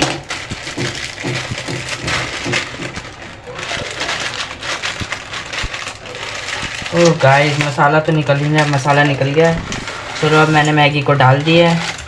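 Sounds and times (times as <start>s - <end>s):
plastic wrapper crinkling and tearing: 0.0s - 12.0s.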